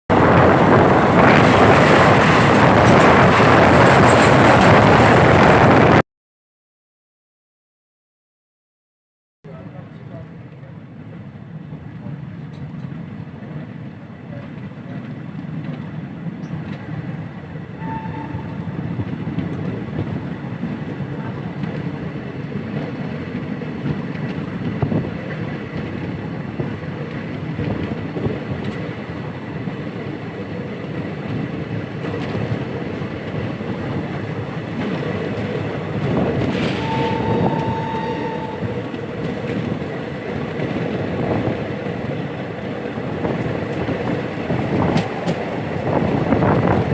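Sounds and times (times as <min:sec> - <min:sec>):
train rumbling on track: 0:00.1 - 0:06.0, 0:09.5 - 0:46.9.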